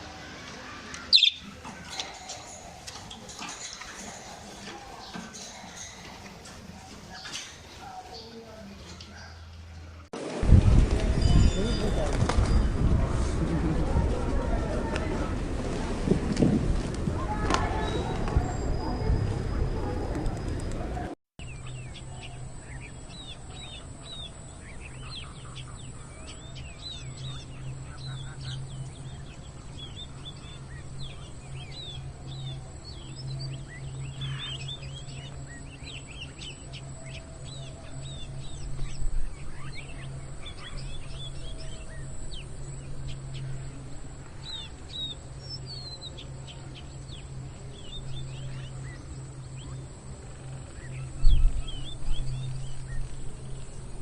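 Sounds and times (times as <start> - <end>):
small birds chirping: 0.0 - 10.0, 17.2 - 54.0.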